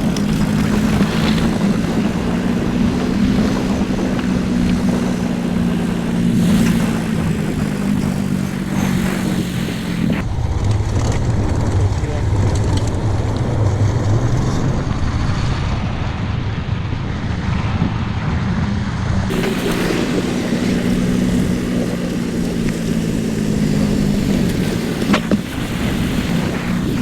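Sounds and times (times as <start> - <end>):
motorbike engine running: 0.0 - 13.9, 19.3 - 27.0
wind buffeting microphone: 0.0 - 27.0.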